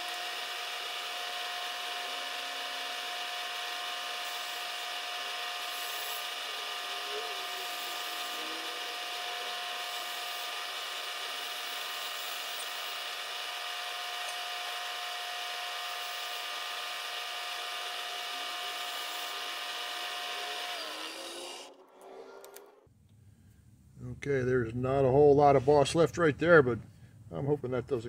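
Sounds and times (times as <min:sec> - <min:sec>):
milling machine whine: 0:00.0 - 0:22.7.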